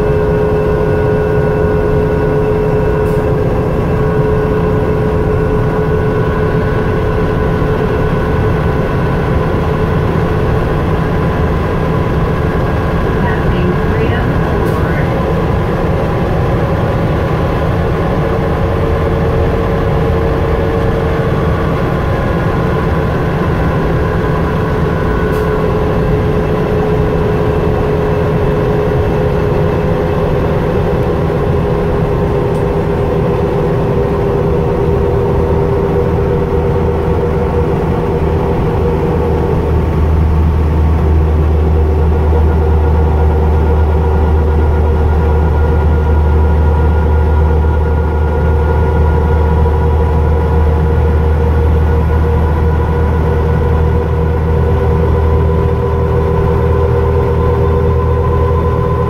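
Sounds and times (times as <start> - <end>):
bus axle gear whine: 0.0 - 59.0
engine and road rumble: 0.0 - 59.0.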